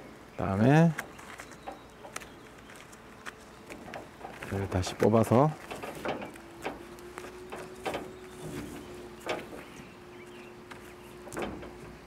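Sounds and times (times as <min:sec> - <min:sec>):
faint steady hum: 0:00.0 - 0:12.0
rope clicks and rustles: 0:00.7 - 0:12.0.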